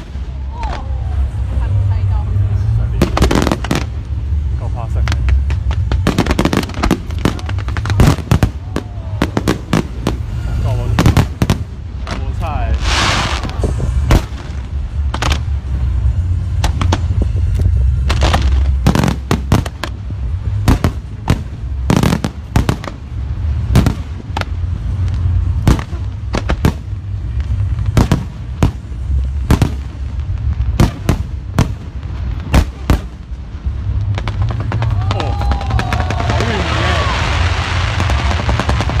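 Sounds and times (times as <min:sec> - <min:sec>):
continuous low rumble: 0:00.0 - 0:39.0
fireworks bangs and crackling: 0:00.0 - 0:39.0.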